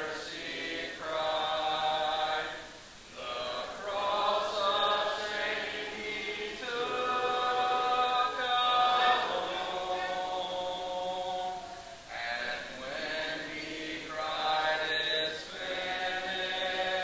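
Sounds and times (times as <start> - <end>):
congregation singing a hymn: 0.0 - 17.0.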